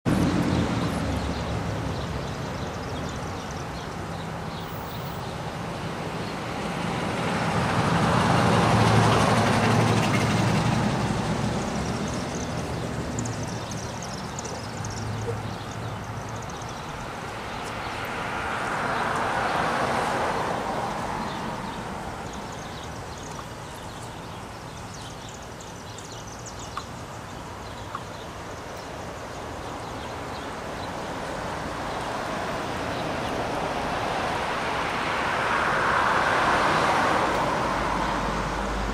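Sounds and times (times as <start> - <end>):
vehicle passing with engine hum: 0.1 - 38.9.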